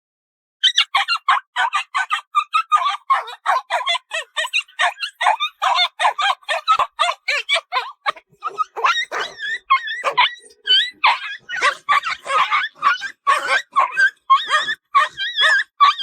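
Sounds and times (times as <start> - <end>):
puppy yipping: 0.6 - 16.0.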